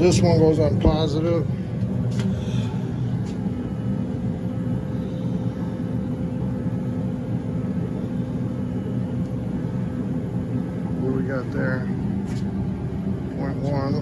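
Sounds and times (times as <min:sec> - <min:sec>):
faint hum: 0:00.0 - 0:14.0
furnace rumble: 0:00.0 - 0:14.0.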